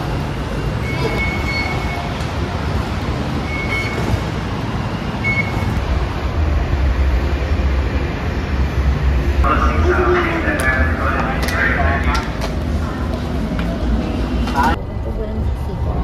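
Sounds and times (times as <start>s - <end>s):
hum of people and machinery: 0.0s - 16.0s.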